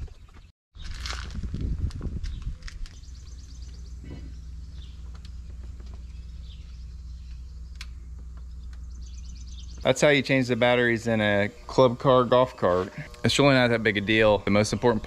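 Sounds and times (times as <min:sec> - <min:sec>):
steady low hum: 0:01.4 - 0:15.0.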